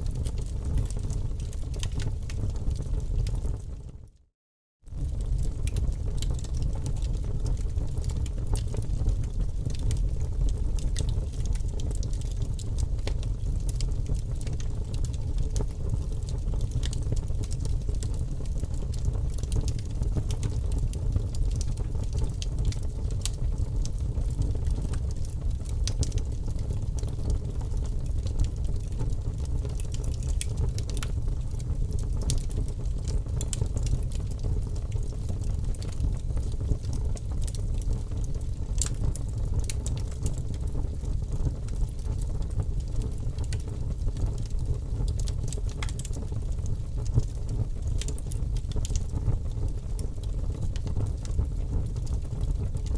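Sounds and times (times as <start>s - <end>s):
small crackles and pops: 0.0s - 52.9s.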